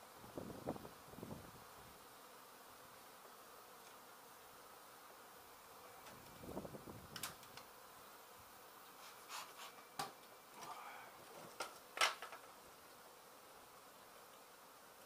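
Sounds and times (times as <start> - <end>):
honey bees buzzing: 0.0 - 15.0
knocks and scrapes on hive: 0.3 - 15.0.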